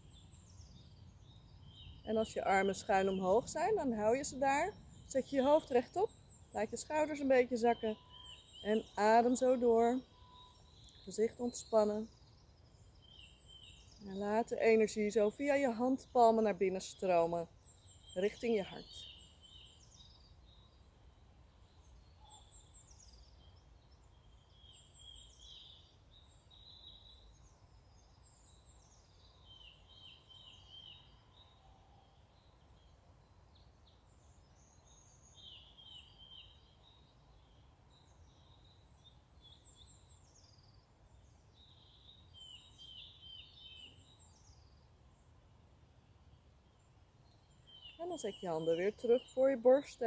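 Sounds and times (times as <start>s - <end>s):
songbirds singing: 0.0s - 50.0s.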